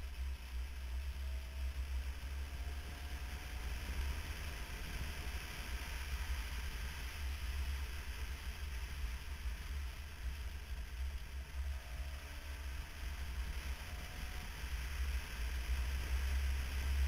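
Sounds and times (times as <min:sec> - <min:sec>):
faint steady whine: 0:00.0 - 0:17.0
motorcycle engine and road noise: 0:00.0 - 0:17.0
wind rumble on microphone: 0:00.0 - 0:17.0.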